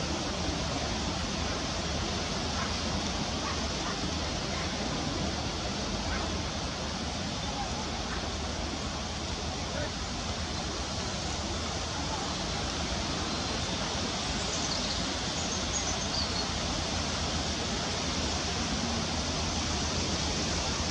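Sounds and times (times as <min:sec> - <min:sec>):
rushing outdoor background noise: 0:00.0 - 0:20.9.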